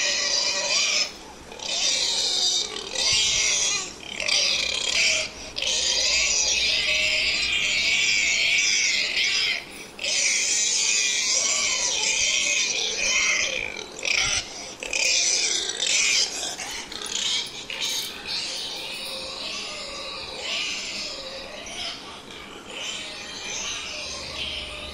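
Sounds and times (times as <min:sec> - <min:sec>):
pig squealing: 0:00.0 - 0:24.9.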